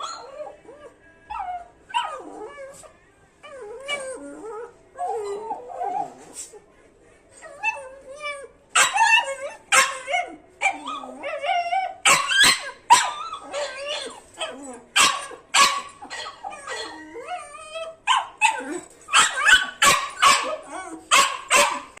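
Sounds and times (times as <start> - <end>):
dog barking and whining: 0.0 - 6.6, 7.4 - 22.0.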